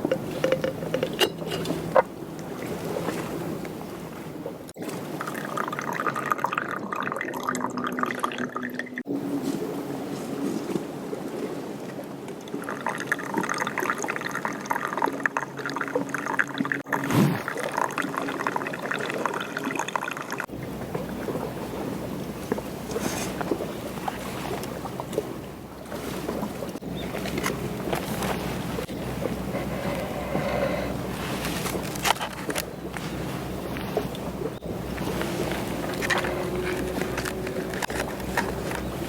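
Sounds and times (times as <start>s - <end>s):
water pouring and trickling: 0.0s - 3.9s, 4.6s - 9.1s, 11.3s - 39.0s.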